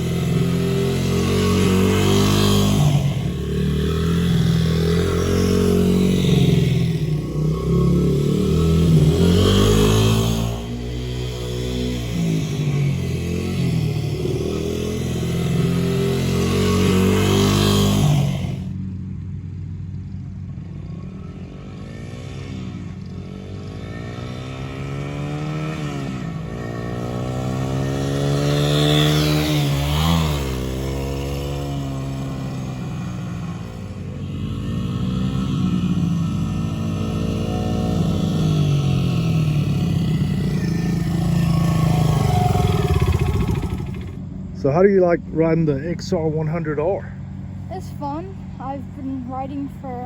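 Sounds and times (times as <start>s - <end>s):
dirt bike engine revving: 0.0s - 19.0s, 20.6s - 50.0s.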